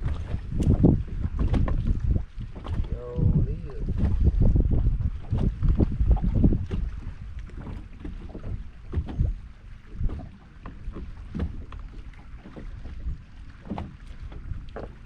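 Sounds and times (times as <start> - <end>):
fishing gear knocking in boat: 0.0 - 15.0
wind rumbling on microphone: 0.0 - 15.0.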